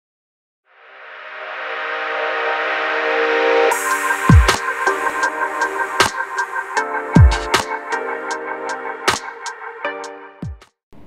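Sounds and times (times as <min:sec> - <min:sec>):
intro music sustained chords: 0:00.7 - 0:10.5.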